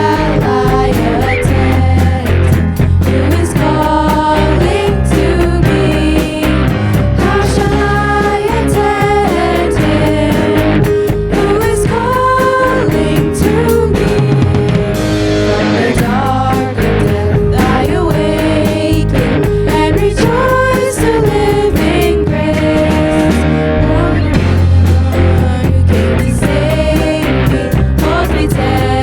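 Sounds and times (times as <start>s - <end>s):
song with singing voice: 0.0s - 29.0s.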